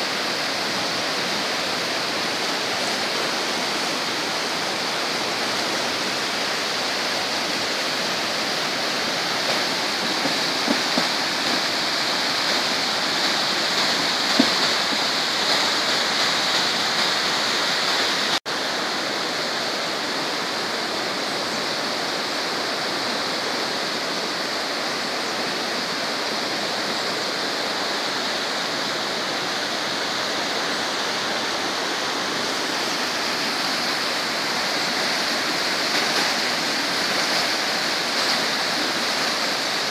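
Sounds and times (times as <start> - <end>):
flood water rushing: 0.0 - 39.9.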